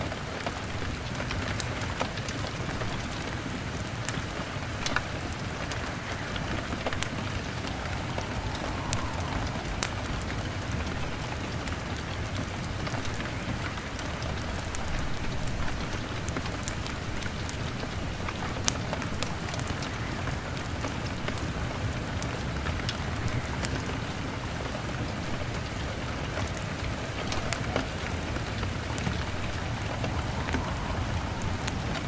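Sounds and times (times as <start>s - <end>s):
fire crackling and popping: 0.0s - 32.0s
rain pattering on a window: 0.0s - 32.0s.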